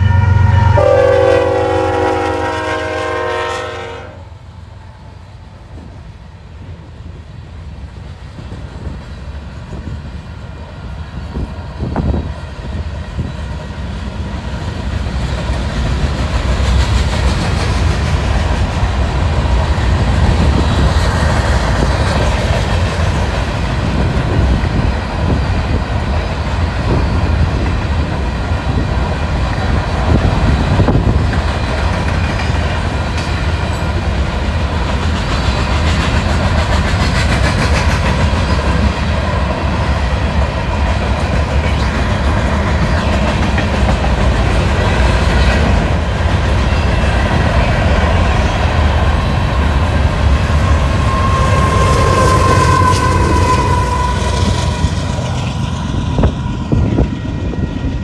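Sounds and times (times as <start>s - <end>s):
freight train wheels clattering: 5.6s - 58.0s.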